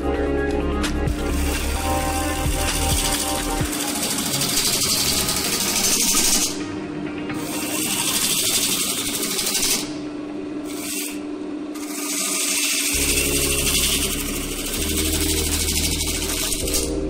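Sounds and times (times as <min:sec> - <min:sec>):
wood lathe gouge cutting wood: 0:01.1 - 0:06.6, 0:07.4 - 0:10.0, 0:10.6 - 0:17.0.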